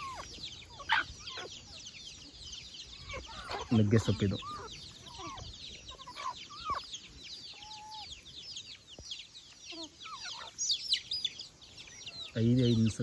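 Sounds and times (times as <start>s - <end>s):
chicks peeping: 0.0s - 13.0s
hens clucking: 0.0s - 13.0s.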